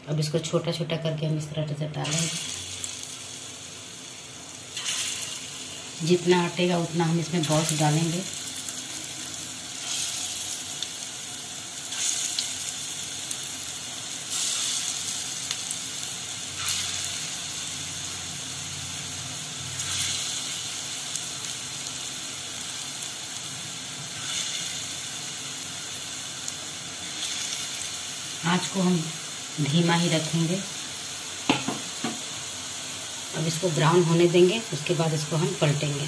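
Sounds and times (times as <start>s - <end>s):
batter deep-frying in oil: 0.0s - 36.0s.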